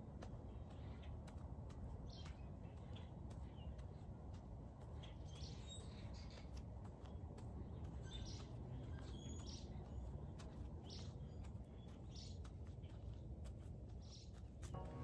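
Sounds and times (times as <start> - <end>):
birds chirping faintly: 0.0 - 15.0
low outdoor rumble: 0.0 - 15.0.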